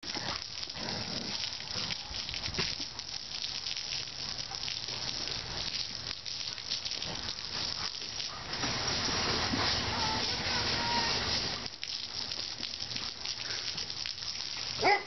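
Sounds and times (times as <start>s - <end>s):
hose water spraying on concrete: 0.0s - 15.0s.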